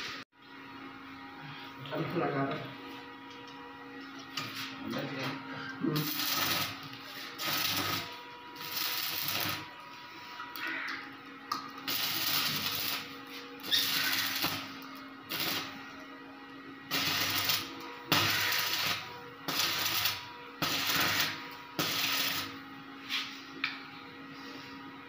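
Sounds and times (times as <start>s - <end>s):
steady electrical hum: 0.0s - 25.0s
arc welder crackling and hissing: 1.9s - 16.2s, 16.8s - 23.6s.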